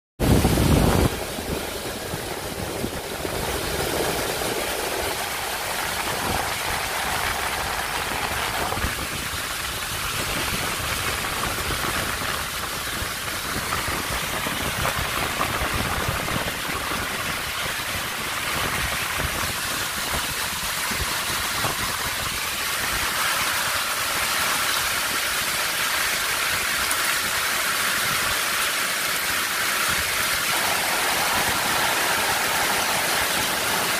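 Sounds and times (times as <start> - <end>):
heavy rain and hail: 0.2 - 33.9.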